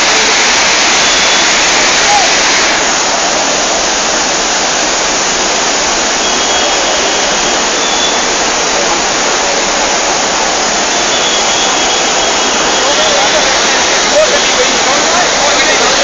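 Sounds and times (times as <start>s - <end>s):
flooded river rushing over boulders: 0.0s - 16.0s.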